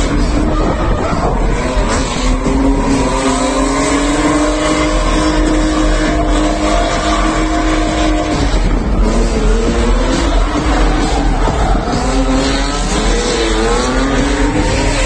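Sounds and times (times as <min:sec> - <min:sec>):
car engine revving high: 0:00.0 - 0:15.0.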